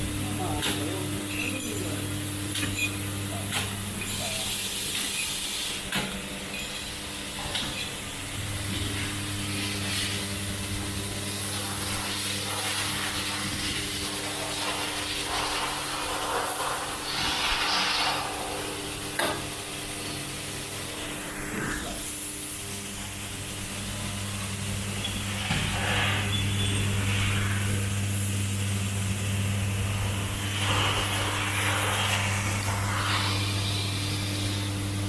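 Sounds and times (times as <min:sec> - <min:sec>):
assembly machine humming: 0:00.0 - 0:16.0, 0:16.8 - 0:35.0.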